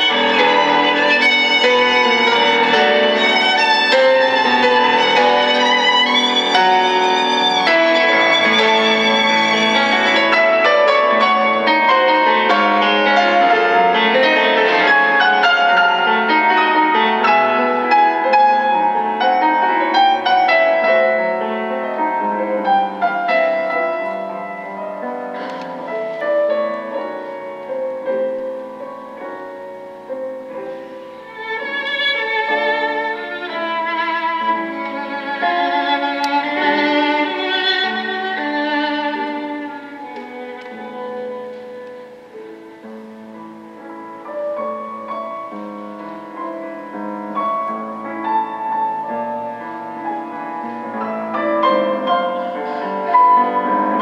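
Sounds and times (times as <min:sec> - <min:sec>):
violin music with piano: 0:00.0 - 0:54.0.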